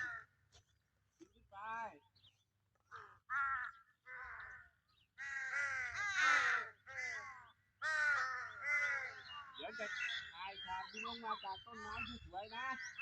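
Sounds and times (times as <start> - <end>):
crows cawing: 0.0 - 0.4, 2.8 - 13.0.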